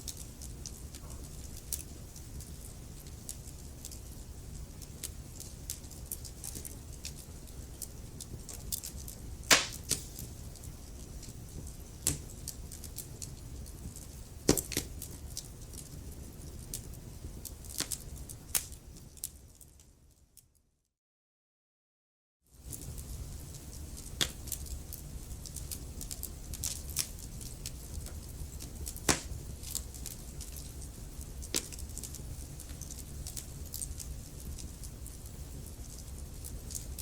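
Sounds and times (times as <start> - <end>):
wood fire crackling and popping: 0.0 - 19.9, 22.6 - 37.0.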